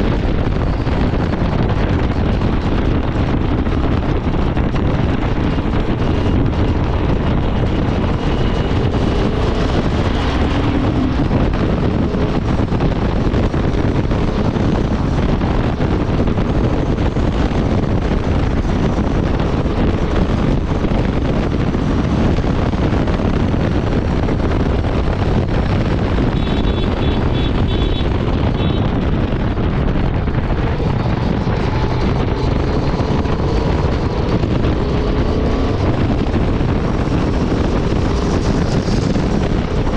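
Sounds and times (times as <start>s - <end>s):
motorcycle engine at speed: 0.0s - 39.9s
wind rushing over microphone: 0.0s - 39.9s.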